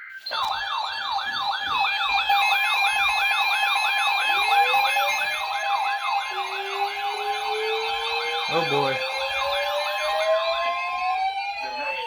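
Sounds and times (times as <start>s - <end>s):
electronic siren yelp: 0.0s - 12.0s
two-note hi-lo siren: 0.0s - 12.0s
rising siren wail: 0.3s - 12.0s.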